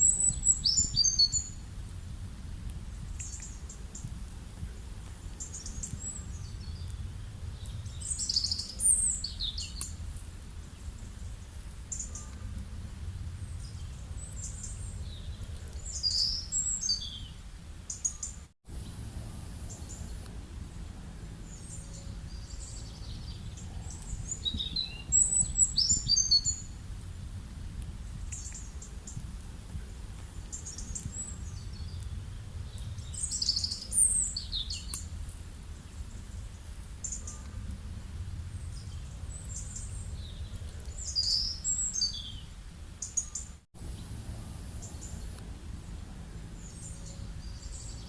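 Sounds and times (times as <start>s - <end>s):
birds chirping and trilling: 0.0s - 1.7s, 5.4s - 10.0s, 10.6s - 26.8s, 30.4s - 35.1s, 35.8s - 37.6s, 38.3s - 48.0s
low rural background rumble: 0.0s - 48.0s.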